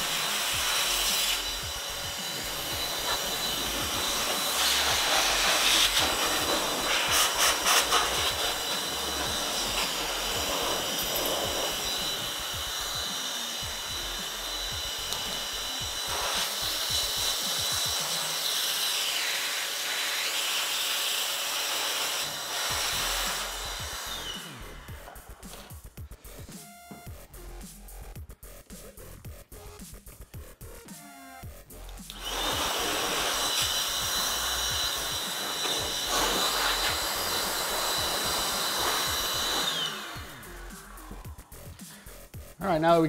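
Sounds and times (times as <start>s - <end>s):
air duster motor whine: 0.0s - 28.2s, 31.4s - 43.0s.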